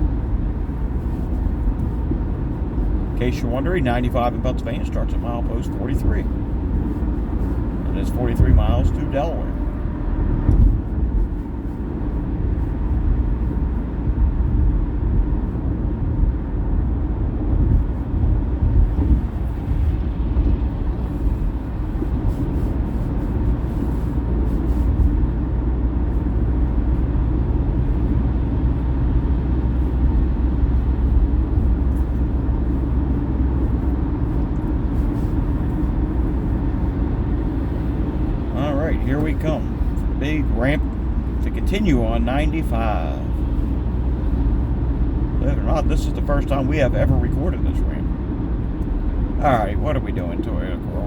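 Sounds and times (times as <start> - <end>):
tyre and engine rumble: 0.0 - 51.0.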